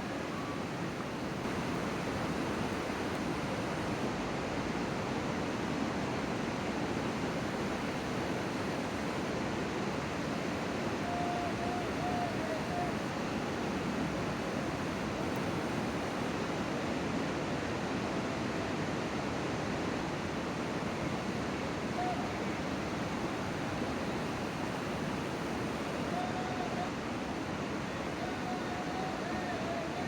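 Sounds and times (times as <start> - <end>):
steady rushing outdoor noise: 0.0 - 30.0.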